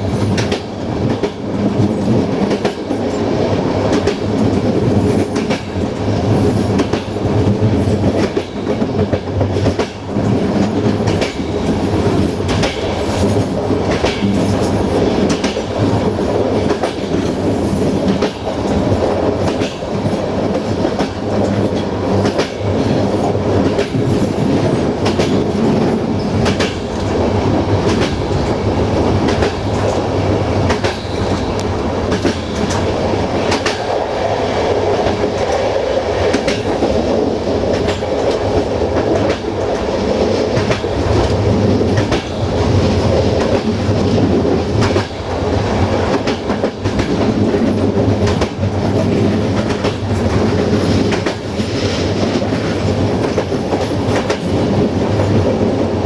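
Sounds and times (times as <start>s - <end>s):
train rolling rumble: 0.0s - 56.0s
train wheels clicking over rail joints: 0.0s - 56.0s.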